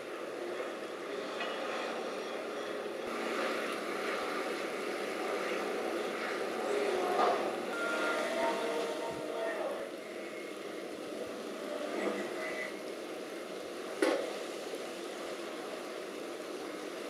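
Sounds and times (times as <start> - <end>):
piling rig engine drone: 0.0 - 17.0.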